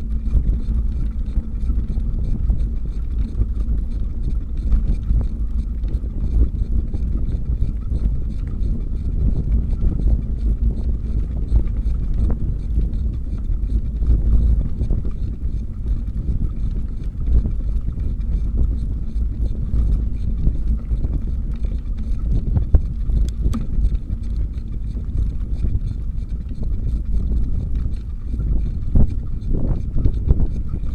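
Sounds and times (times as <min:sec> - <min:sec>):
small clicks and rattles: 0:00.0 - 0:30.9
wind buffeting microphone: 0:00.0 - 0:30.9.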